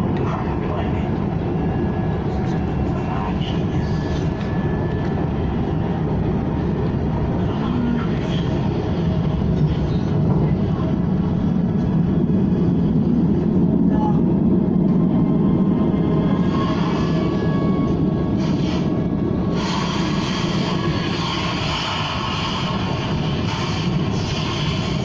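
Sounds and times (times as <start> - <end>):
electric train rumble from inside: 0.0 - 25.0.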